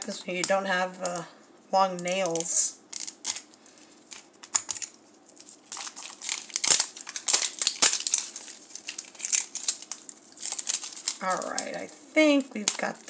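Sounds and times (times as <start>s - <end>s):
plastic wrapping crinkling and tearing: 2.0s - 13.0s.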